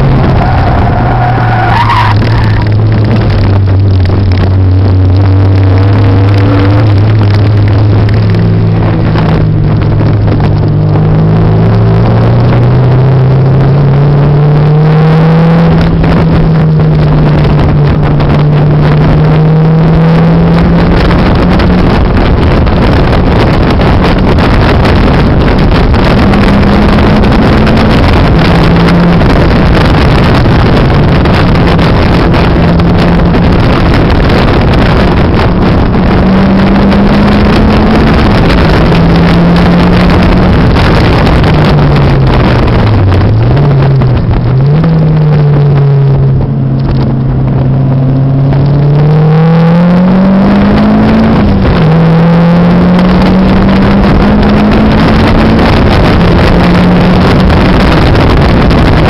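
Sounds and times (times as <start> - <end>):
car engine pulling hard: 0.0 - 59.0
wind and road noise: 0.0 - 59.0.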